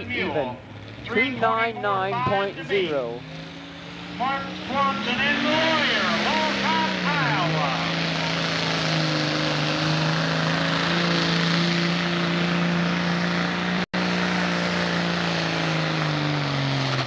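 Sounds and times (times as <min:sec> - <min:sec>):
diesel engine running flat out: 0:00.0 - 0:17.0.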